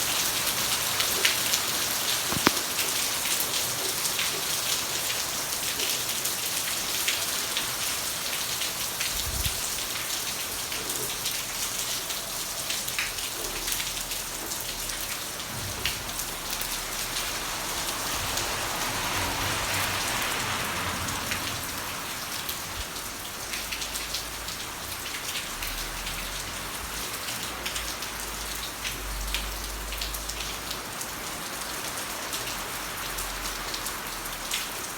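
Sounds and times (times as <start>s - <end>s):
heavy rain pouring: 0.0s - 34.9s
raindrops ticking on surfaces: 0.0s - 34.9s.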